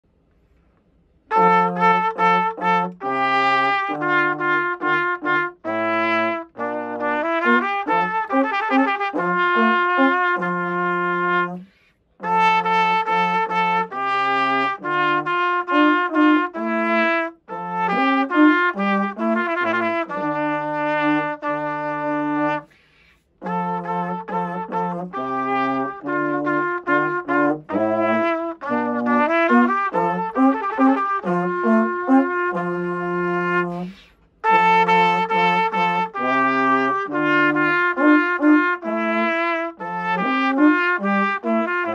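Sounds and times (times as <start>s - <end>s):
baritone horn: 1.2s - 41.9s
trumpet: 1.2s - 41.9s.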